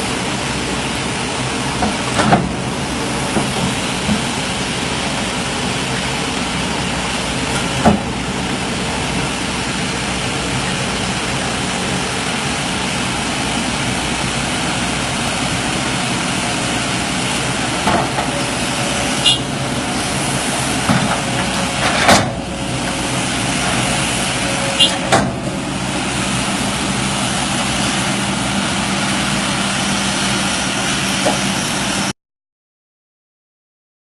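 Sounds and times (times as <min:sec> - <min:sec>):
excavator diesel engine running: 0:00.0 - 0:32.2.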